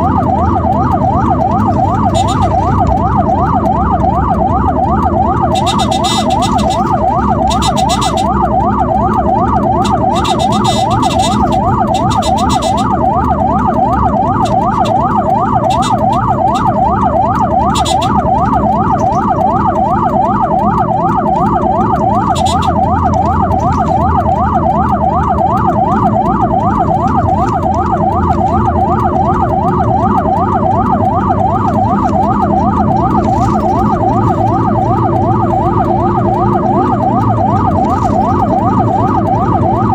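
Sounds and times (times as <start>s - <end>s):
ambulance siren yelping: 0.0s - 39.9s
engine and road noise: 0.0s - 39.9s.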